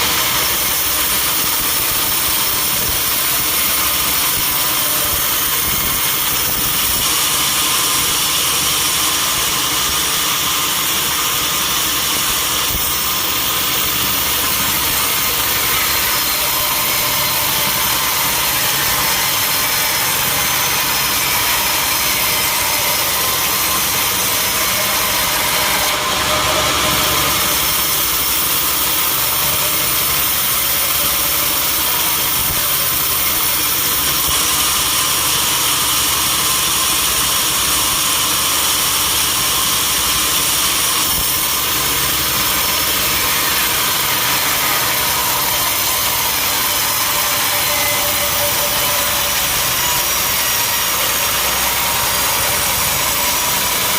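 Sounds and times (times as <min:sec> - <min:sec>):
sawmill machine hiss: 0:00.0 - 0:53.9.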